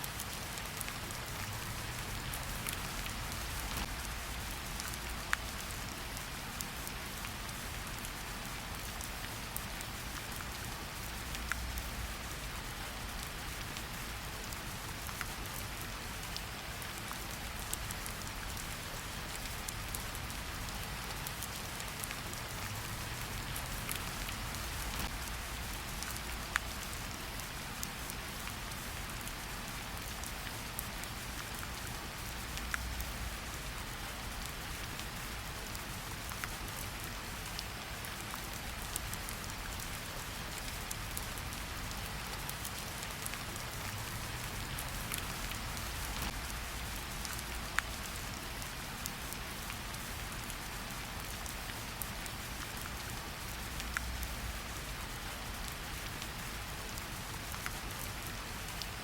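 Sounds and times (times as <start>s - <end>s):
individual raindrop ticks: 0.0s - 59.0s
steady rain in forest: 0.0s - 59.0s.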